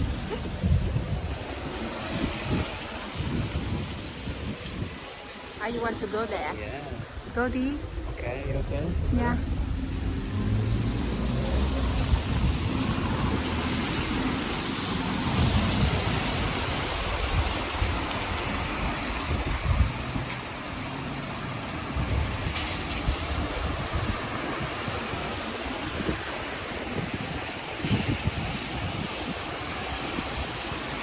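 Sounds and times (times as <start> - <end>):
steady rushing noise: 0.0 - 31.0
wind buffeting microphone: 0.0 - 31.0.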